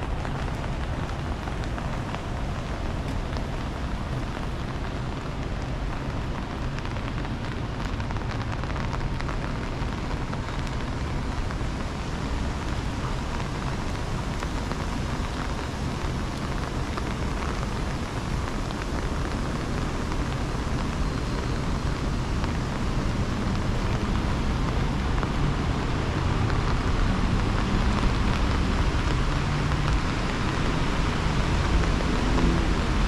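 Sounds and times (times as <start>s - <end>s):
low rumble of rain: 0.0s - 33.0s
rain drops tapping: 0.0s - 33.0s.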